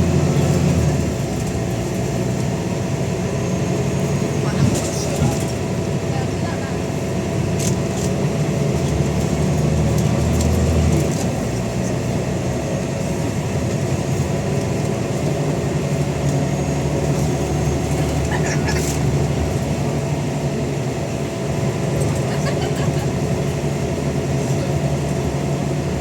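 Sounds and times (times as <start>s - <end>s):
bus diesel engine drone: 0.0s - 26.0s.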